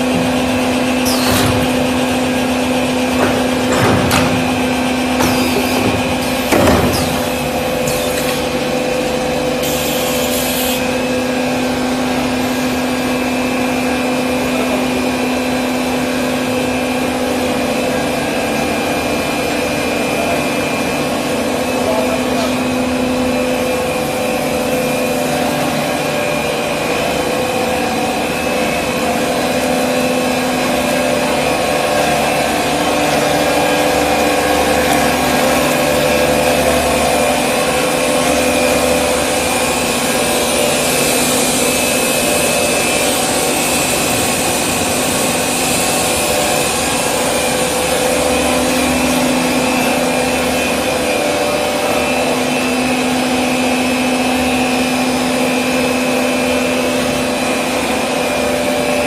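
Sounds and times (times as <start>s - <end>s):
machine motors and turning rollers: 0.0s - 59.0s.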